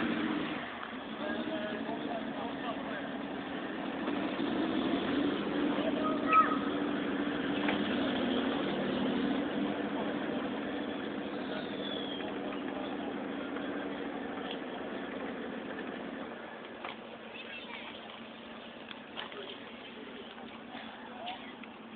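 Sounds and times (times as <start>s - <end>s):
vehicle engine running: 0.0s - 21.9s.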